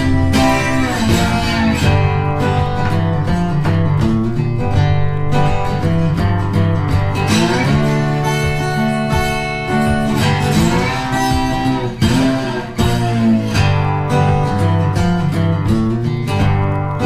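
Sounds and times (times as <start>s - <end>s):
country acoustic guitar music: 0.0s - 17.0s.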